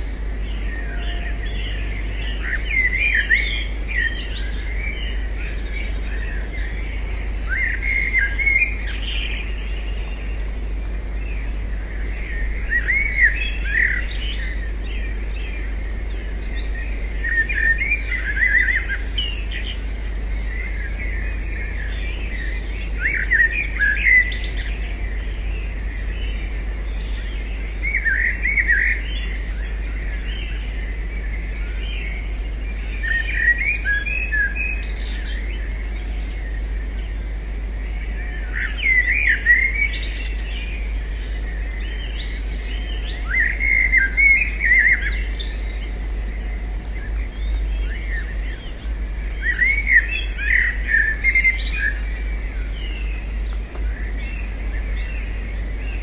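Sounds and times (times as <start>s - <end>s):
songbirds twittering: 0.0s - 56.0s
steady low rumble: 0.0s - 56.0s.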